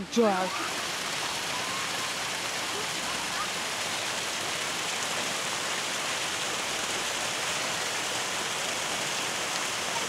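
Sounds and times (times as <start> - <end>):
hiss of falling water: 0.0 - 10.0.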